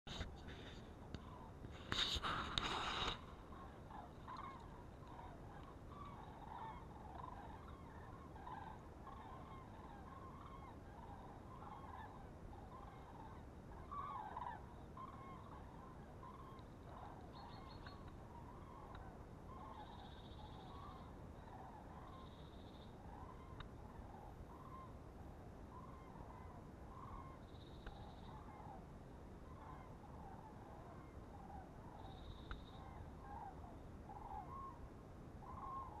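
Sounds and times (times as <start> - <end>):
geese honking: 1.2 - 25.0, 25.7 - 28.9, 29.5 - 34.8, 35.4 - 36.0.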